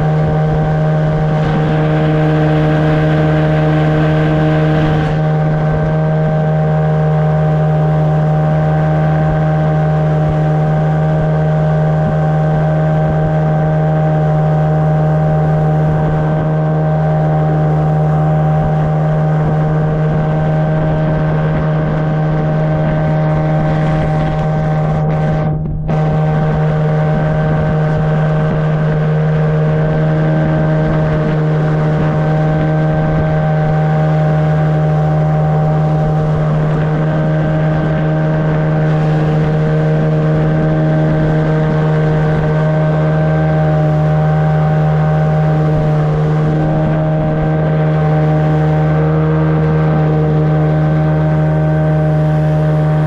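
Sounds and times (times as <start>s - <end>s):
outboard motor droning: 0.0s - 53.0s.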